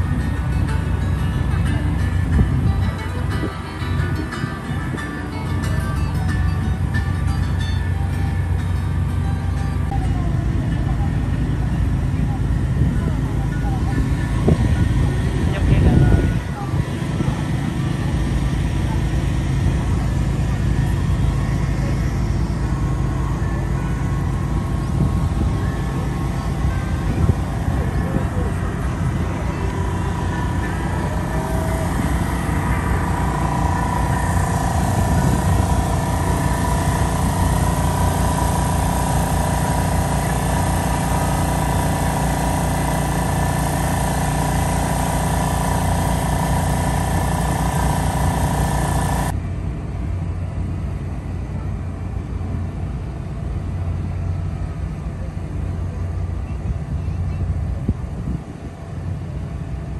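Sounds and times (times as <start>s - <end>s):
vehicle engine noise: 0.0s - 59.9s.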